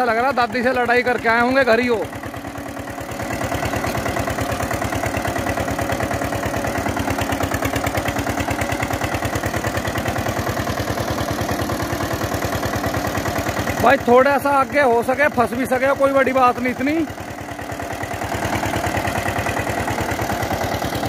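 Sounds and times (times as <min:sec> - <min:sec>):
tractor diesel engine chugging: 0:00.0 - 0:21.0.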